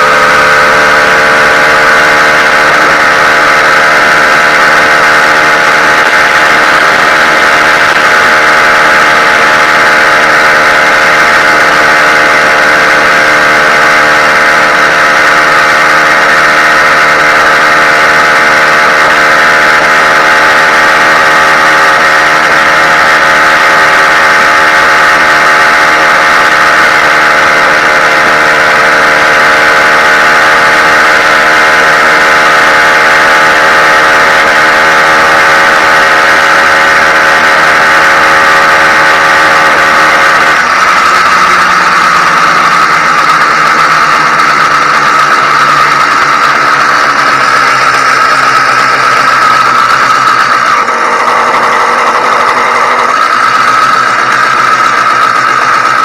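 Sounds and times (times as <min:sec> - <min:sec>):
two-stroke engine idling: 0:00.0 - 0:56.0.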